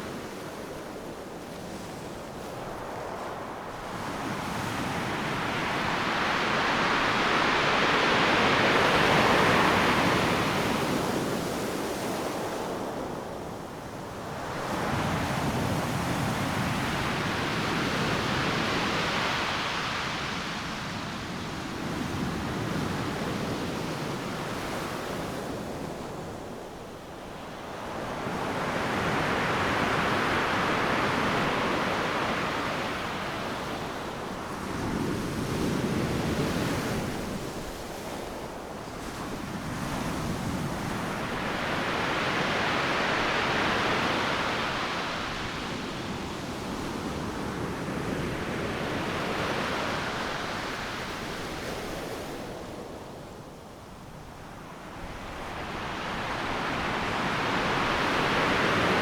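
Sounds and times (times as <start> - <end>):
ocean surf breaking on beach: 2.8 - 13.2, 13.9 - 25.2, 27.4 - 53.1, 54.4 - 59.0.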